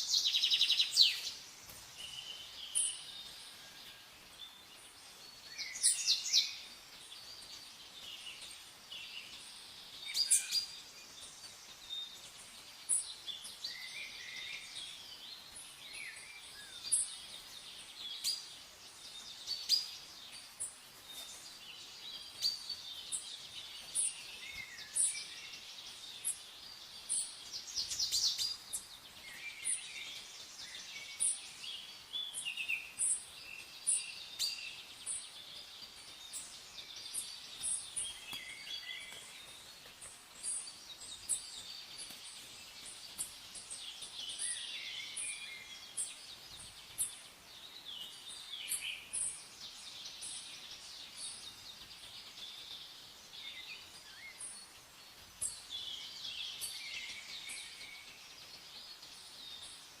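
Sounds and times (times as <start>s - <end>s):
wild birds chirping and singing: 0.0s - 60.0s.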